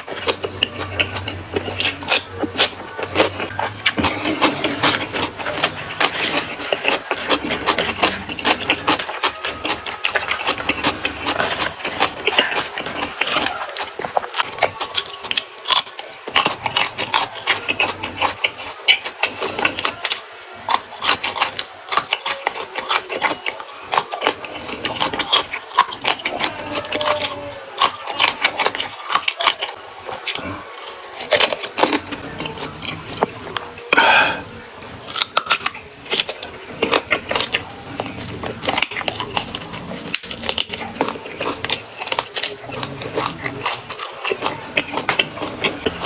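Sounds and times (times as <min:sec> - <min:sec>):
chewing raw vegetables: 0:00.0 - 0:46.0.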